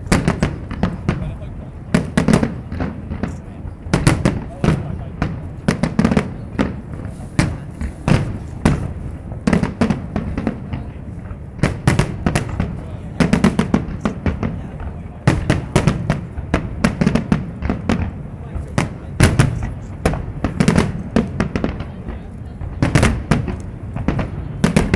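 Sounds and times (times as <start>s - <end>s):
fireworks bursting: 0.0s - 24.9s.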